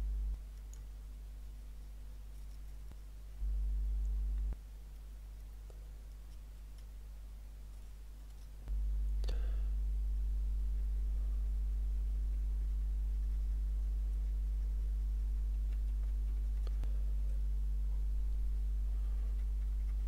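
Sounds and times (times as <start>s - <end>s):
low electrical mains hum: 0.0s - 20.0s.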